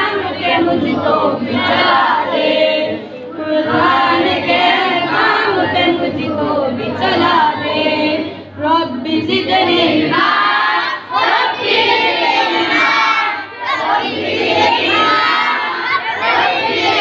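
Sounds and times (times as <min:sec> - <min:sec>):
children singing along: 0:00.0 - 0:17.0.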